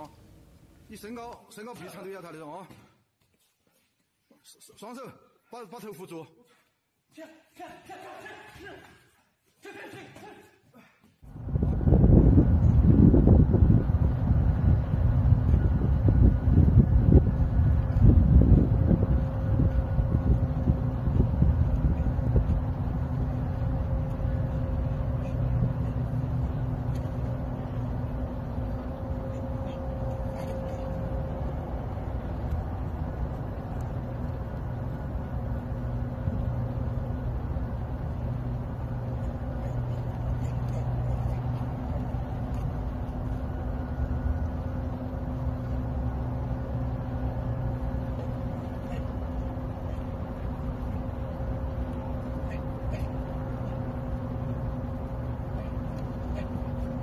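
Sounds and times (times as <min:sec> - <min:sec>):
mechanical hum: 0:00.0 - 0:57.0
low outdoor rumble: 0:11.3 - 0:57.0.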